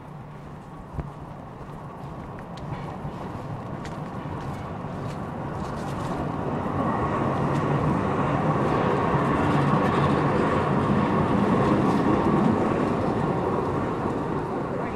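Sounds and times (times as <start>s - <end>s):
light rail car passing: 0.0s - 14.9s.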